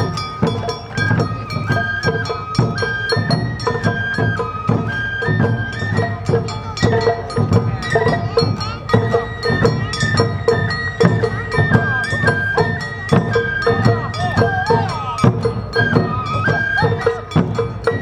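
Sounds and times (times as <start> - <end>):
bamboo flute melody: 0.0 - 18.0
drums beating: 0.0 - 18.0.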